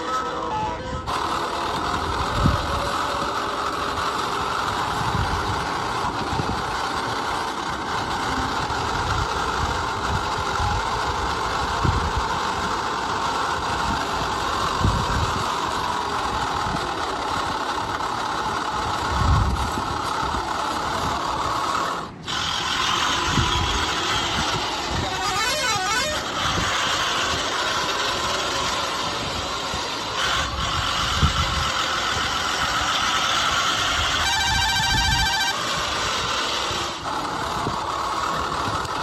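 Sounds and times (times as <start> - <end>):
heavy vehicle engine running: 0.0 - 39.0.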